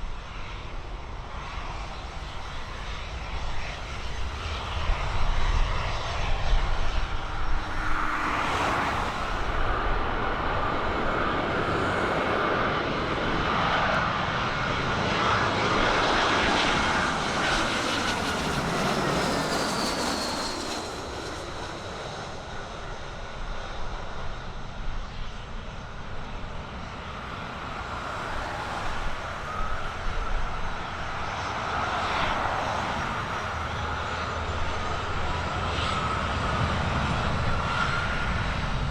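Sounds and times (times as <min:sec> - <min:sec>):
aircraft engine whine: 0:00.0 - 0:38.9
wind rumbling on microphone: 0:00.0 - 0:38.9.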